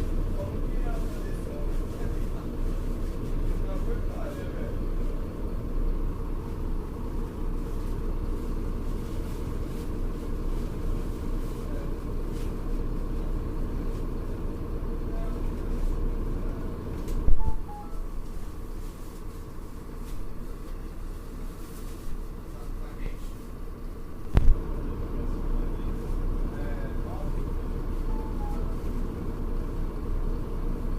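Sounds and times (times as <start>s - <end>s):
bus engine running: 0.0s - 30.9s.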